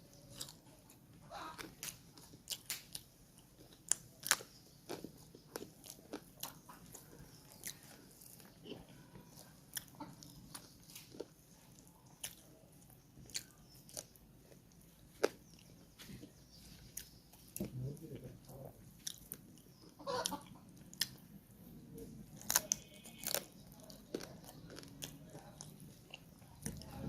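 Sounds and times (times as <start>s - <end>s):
chewing with wet smacks: 0.1s - 27.0s.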